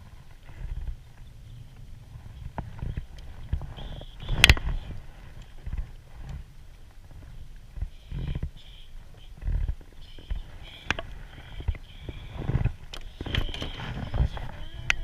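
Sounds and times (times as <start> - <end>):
faint high whirring: 0.0 - 15.0.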